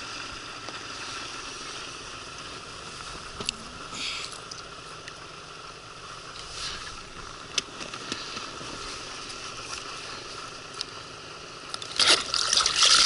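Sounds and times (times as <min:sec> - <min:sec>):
faint river water: 0:00.0 - 0:13.0.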